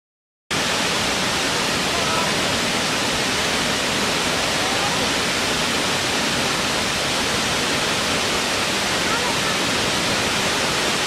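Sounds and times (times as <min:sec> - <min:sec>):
waterfall rushing over rock: 0:00.5 - 0:11.0.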